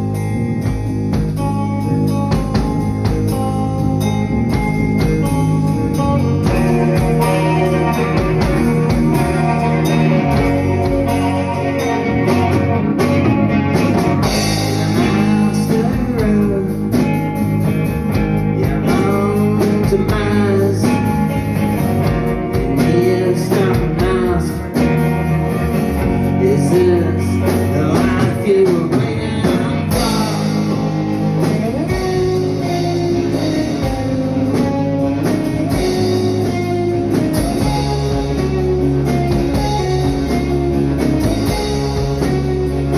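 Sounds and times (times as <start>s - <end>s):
blues rock band playing: 0.0s - 42.9s
guitar: 0.0s - 42.9s
person singing: 6.4s - 42.9s.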